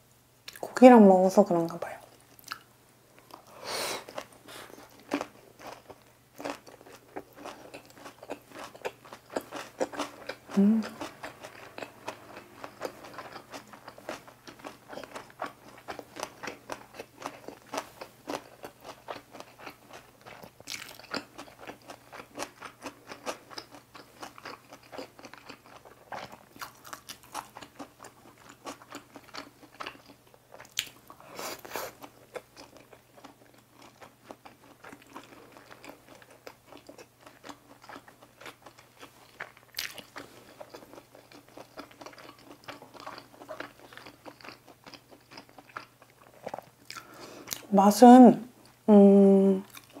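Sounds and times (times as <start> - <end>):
crisp chewing: 2.1 - 47.7.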